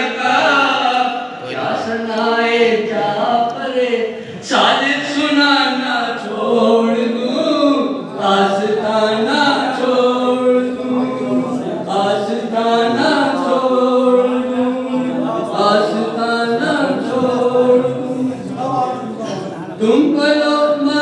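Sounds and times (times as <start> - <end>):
man chanting unaccompanied: 0.0 - 21.0.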